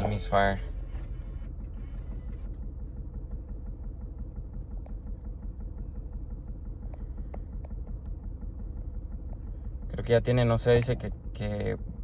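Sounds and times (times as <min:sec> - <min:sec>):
car engine idling roughly: 0:00.0 - 0:12.0.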